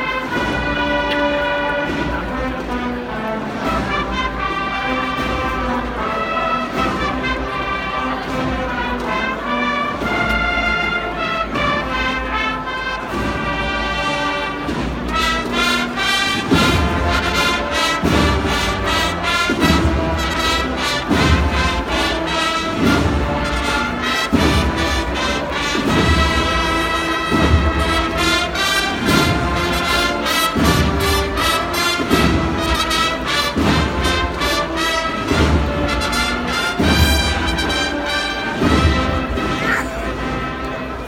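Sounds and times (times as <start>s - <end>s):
marching band playing: 0.0s - 41.0s.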